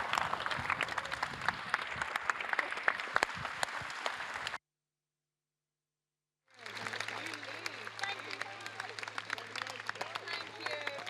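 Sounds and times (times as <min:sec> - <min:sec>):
audience applauding: 0:00.0 - 0:04.6, 0:06.6 - 0:11.0.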